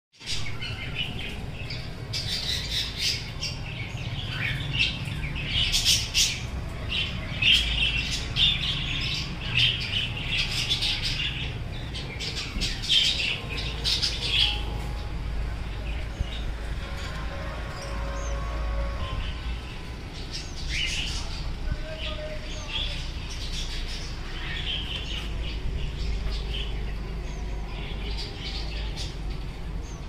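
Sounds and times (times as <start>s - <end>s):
birds chirping and squawking: 0.2s - 30.0s
low steady rumble: 0.3s - 30.0s.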